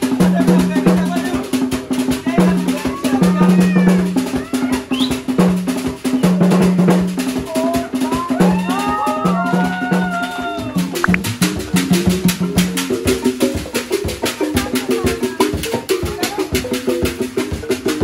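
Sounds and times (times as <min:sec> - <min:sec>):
hand drums beating fast rhythm: 0:00.0 - 0:18.0.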